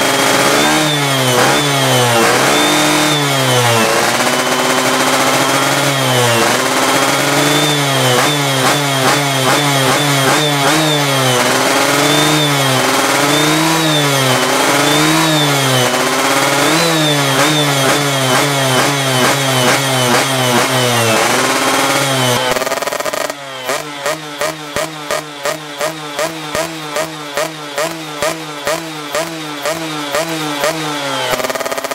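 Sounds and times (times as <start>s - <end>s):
two-stroke engine revving: 0.0s - 31.9s.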